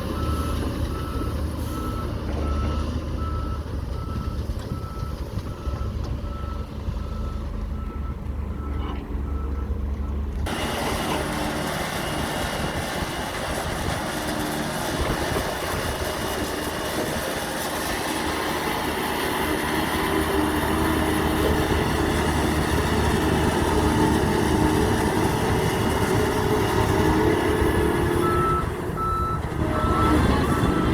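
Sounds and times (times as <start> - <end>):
diesel truck engines: 0.0 - 30.9.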